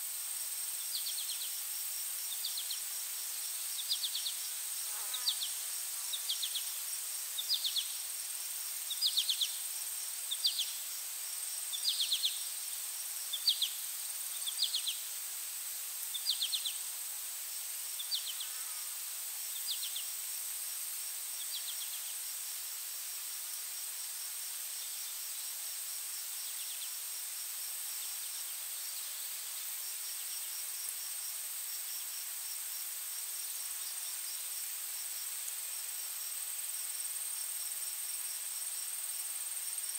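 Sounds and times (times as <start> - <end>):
short insect chirp: 0.0 - 39.9.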